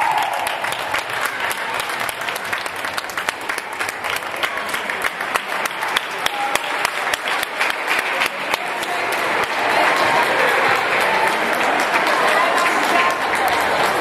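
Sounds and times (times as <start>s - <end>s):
spectators clapping and applauding: 0.0s - 14.0s.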